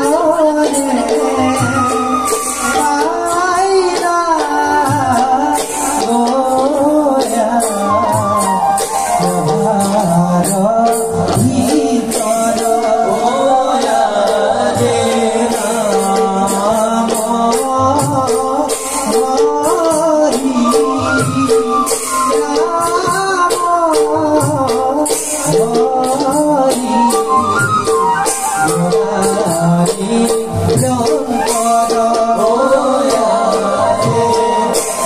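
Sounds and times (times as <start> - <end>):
person singing: 0.0 - 35.0.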